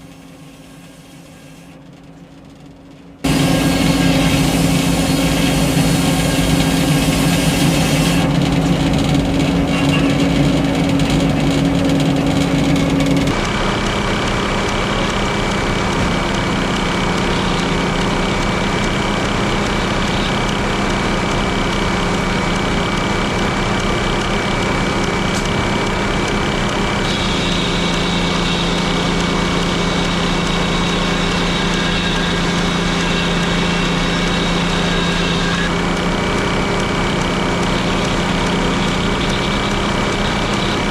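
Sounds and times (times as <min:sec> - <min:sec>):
sawmill engine and circular saw: 0:00.0 - 0:40.9.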